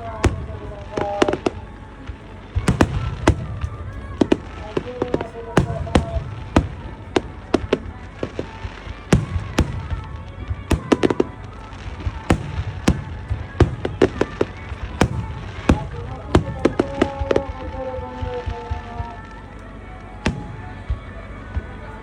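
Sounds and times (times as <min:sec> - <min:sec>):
fireworks bangs: 0:00.0 - 0:22.0
low rumble: 0:00.0 - 0:22.0.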